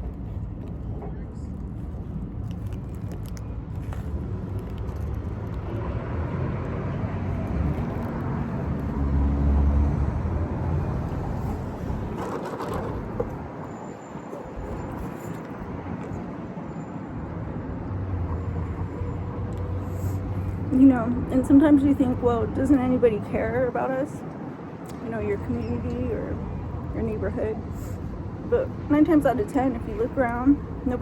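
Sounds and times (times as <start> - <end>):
motor vehicle rumble: 0.0 - 31.0.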